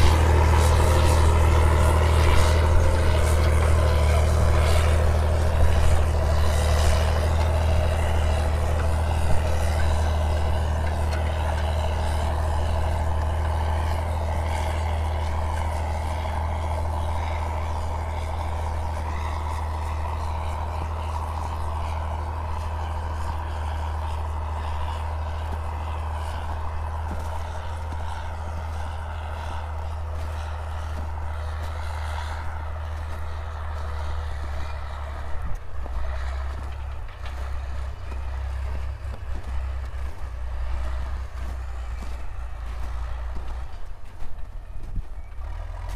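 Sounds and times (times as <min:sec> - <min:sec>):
tractor diesel engine drone: 0:00.0 - 0:45.9.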